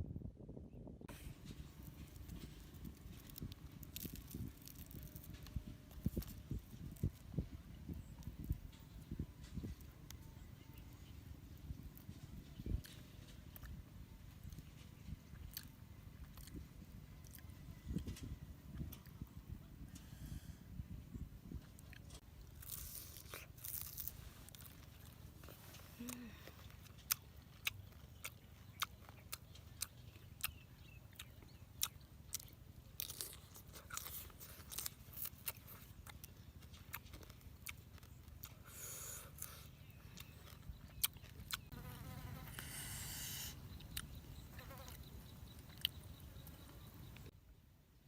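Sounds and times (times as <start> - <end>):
chewing and crunching: 1.2 - 19.3, 21.6 - 47.3.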